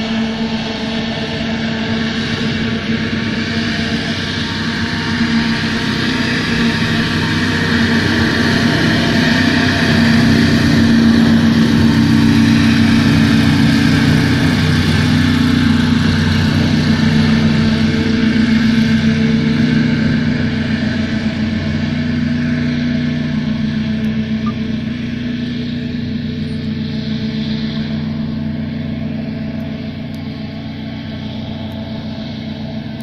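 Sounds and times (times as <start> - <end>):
hovercraft engine and fan running: 0.0 - 33.0.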